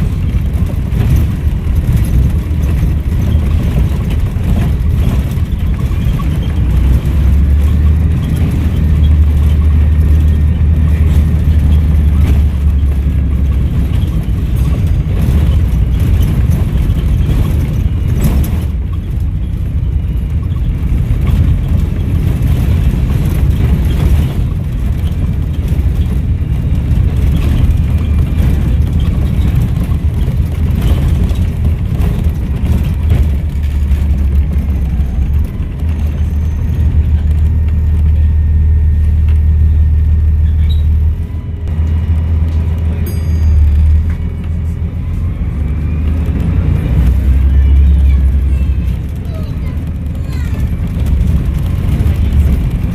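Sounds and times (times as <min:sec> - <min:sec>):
bus diesel engine under load: 0:00.0 - 0:52.9.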